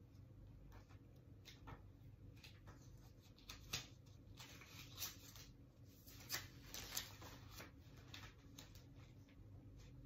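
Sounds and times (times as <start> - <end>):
steady room hum: 0.0 - 10.0.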